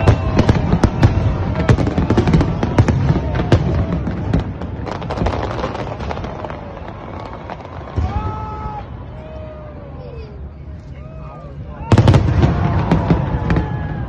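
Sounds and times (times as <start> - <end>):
fireworks bangs and crackles: 0.0 - 9.2, 11.8 - 14.0.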